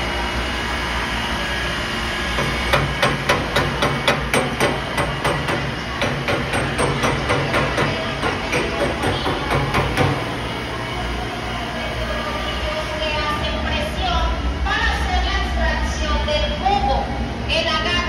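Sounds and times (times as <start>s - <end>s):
low machine drone: 0.0s - 18.0s
machinery hum: 0.0s - 18.0s.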